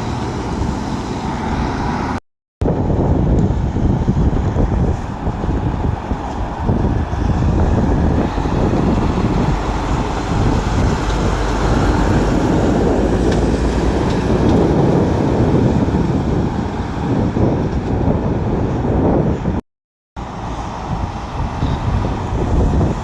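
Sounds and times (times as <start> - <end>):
road traffic rumble: 0.0 - 19.6, 20.2 - 23.0.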